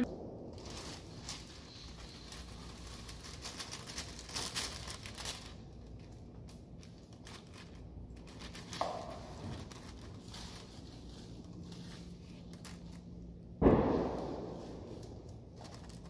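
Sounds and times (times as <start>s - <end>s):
wax paper crinkling: 0.1s - 16.0s.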